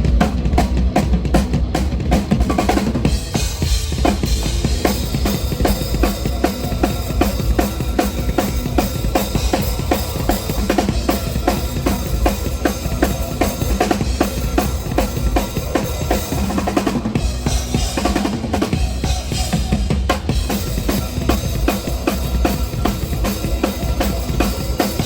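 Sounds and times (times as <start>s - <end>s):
rapid bass drum strokes: 0.0s - 25.0s.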